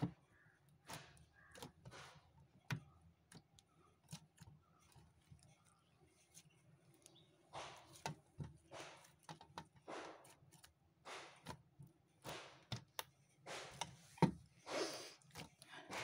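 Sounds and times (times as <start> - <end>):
slime squelching: 0.3 - 16.0.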